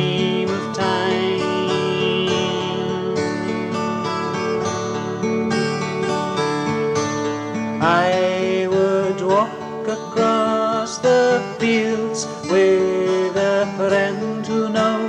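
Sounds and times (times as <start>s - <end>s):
acoustic guitar song: 0.0s - 15.0s.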